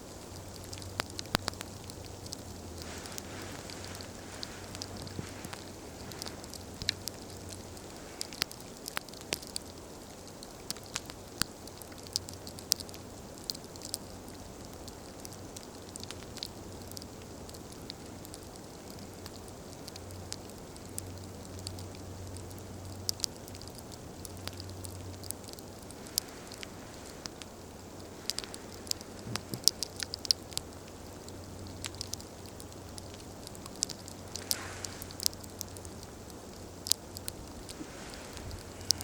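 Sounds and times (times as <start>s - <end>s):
campfire crackling: 0.0s - 39.0s
fire pops and snaps: 0.1s - 39.0s.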